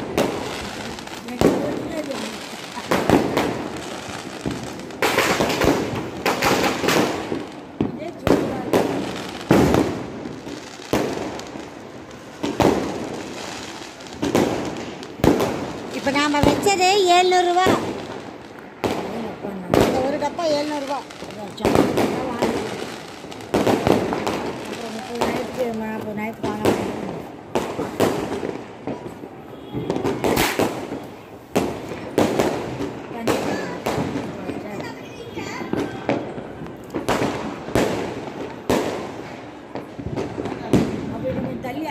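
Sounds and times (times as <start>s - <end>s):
firecrackers banging: 0.0s - 41.9s.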